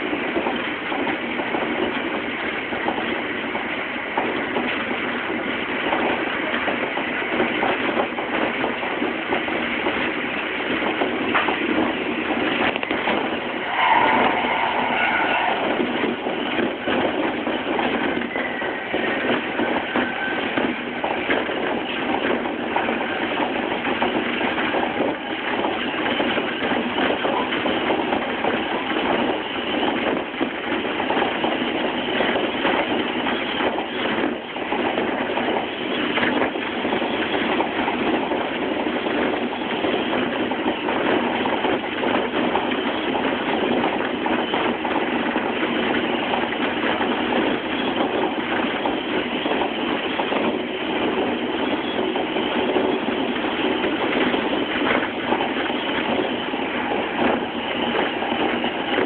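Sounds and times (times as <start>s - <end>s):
train running noise from inside: 0.0s - 59.0s.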